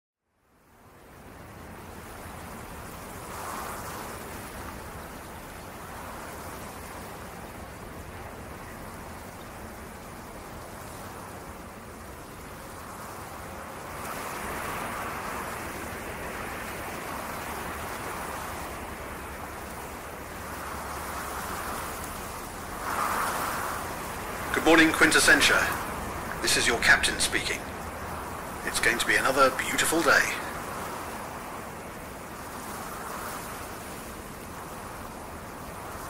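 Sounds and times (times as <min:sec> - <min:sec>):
steady rushing noise: 0:01.4 - 0:36.0.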